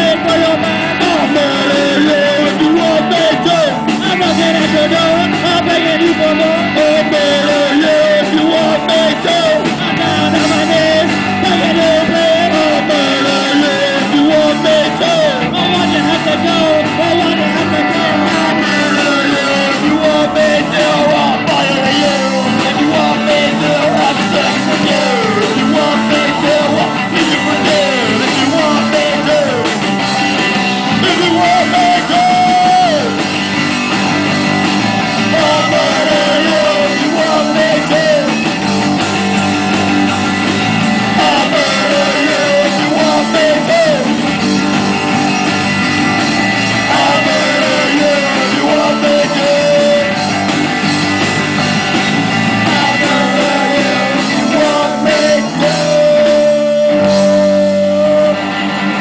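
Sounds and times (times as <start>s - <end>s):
person singing into a microphone: 0.0s - 29.8s, 30.8s - 33.2s, 35.0s - 38.5s, 41.0s - 44.4s, 46.7s - 50.4s, 52.4s - 58.6s
drum kit: 0.0s - 59.0s
electric guitars: 0.0s - 59.0s.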